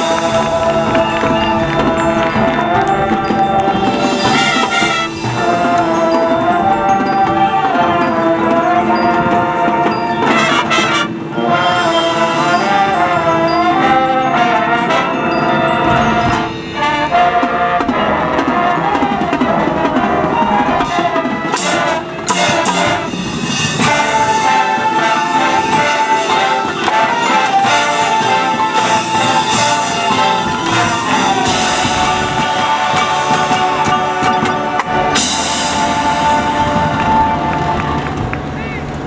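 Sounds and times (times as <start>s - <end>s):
marching band brass melody: 0.0s - 39.0s
marching percussion: 0.0s - 39.0s.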